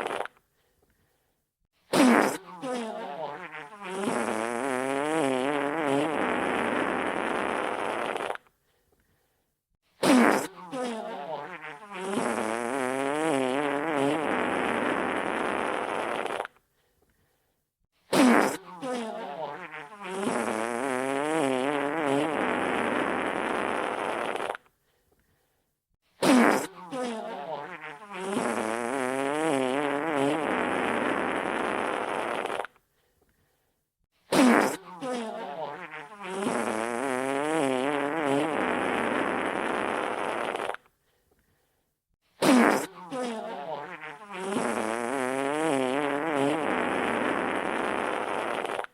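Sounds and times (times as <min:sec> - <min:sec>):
wet sputtering fart: 0:00.0 - 0:00.4, 0:01.9 - 0:08.5, 0:10.0 - 0:16.6, 0:18.1 - 0:24.7, 0:26.2 - 0:32.8, 0:34.3 - 0:40.9, 0:42.4 - 0:48.9.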